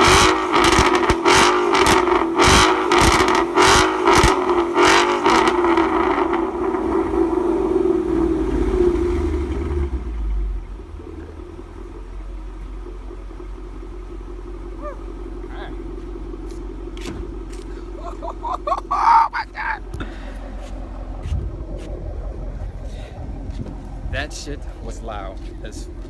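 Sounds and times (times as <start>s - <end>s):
car engine revving at redline: 0.0s - 26.0s
engine idle rumble: 0.0s - 26.0s.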